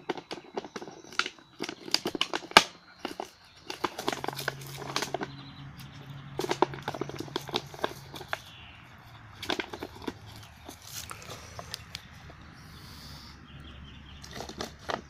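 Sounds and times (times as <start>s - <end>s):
dog chewing plastic bottle: 0.0s - 12.1s, 14.2s - 15.0s.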